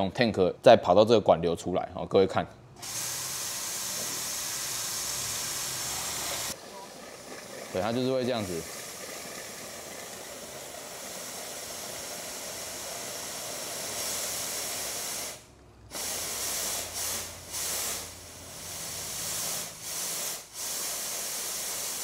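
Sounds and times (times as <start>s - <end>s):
compressed air blow gun hissing: 2.8s - 22.0s.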